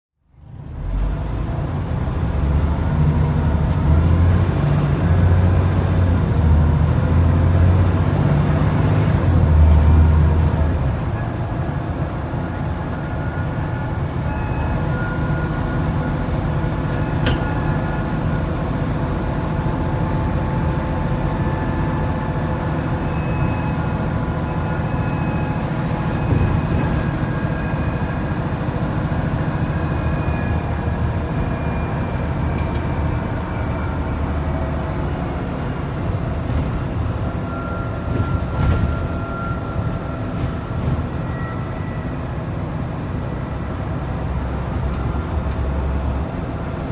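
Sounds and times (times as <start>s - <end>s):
bus diesel engine running: 0.2s - 46.9s.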